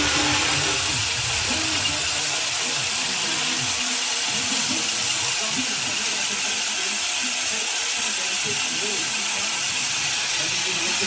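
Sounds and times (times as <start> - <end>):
bandsaw mill hissing: 0.0 - 11.0.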